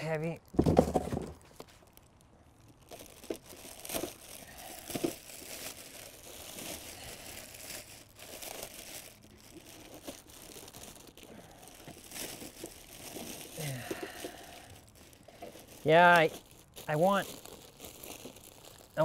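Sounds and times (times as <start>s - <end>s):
plastic wrapping crinkling: 0.4s - 19.0s.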